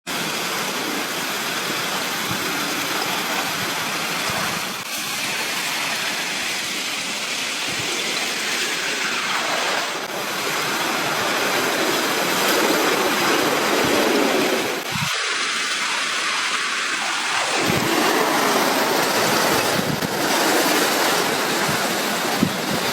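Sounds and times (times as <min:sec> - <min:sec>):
river ice grinding and rushing: 0:00.1 - 0:22.9.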